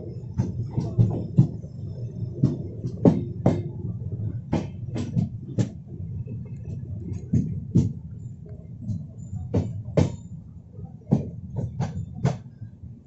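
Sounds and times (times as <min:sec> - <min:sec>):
wheels clacking over rail joints: 0:00.0 - 0:10.3, 0:11.0 - 0:12.6
train rumble: 0:00.0 - 0:13.0.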